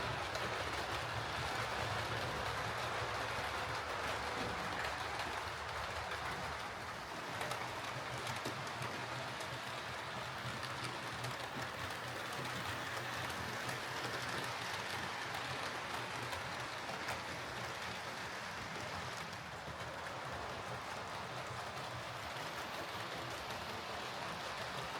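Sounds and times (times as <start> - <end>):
model train motor humming: 0.0 - 24.9
wheels rushing on rails: 0.0 - 24.9.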